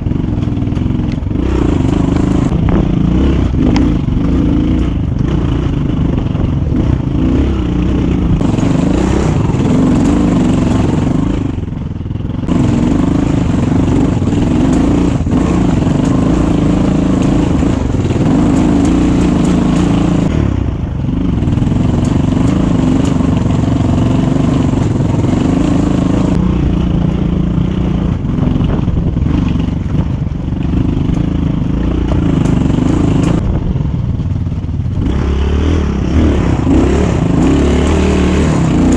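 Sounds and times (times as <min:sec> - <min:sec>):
dirt bike engine revving: 0:00.0 - 0:33.9, 0:34.6 - 0:38.9.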